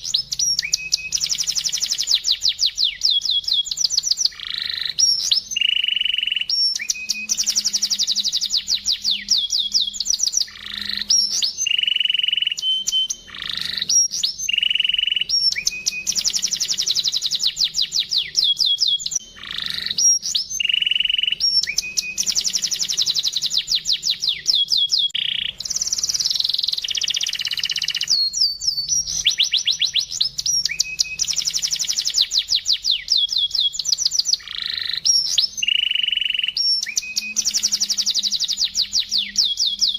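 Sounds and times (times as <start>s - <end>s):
canary singing with trills: 0.0s - 39.9s.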